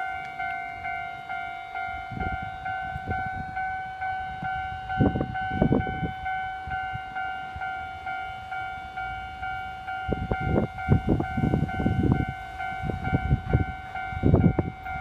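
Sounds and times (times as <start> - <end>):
level crossing bell ringing: 0.0 - 15.0.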